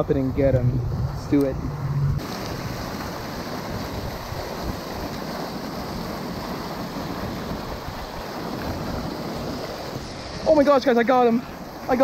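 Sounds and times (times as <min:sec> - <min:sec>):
waterfall rushing: 0:01.4 - 0:12.0.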